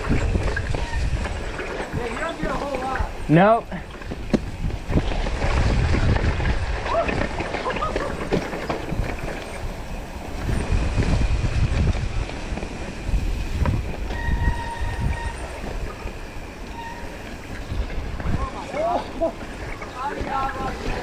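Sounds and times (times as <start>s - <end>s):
mountain bike rattling on dirt trail: 0.0s - 21.0s
wind buffeting microphone: 0.0s - 21.0s.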